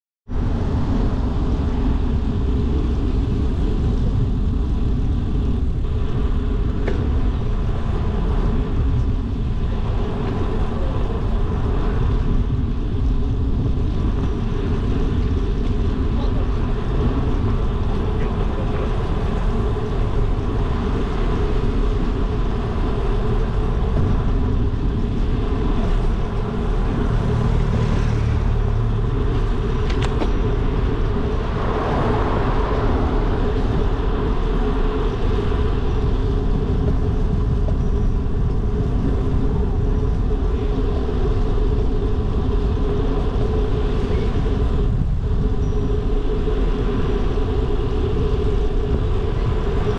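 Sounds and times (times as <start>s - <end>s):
bicycle tyres on road: 0.3s - 49.9s
wind on microphone: 0.3s - 49.9s.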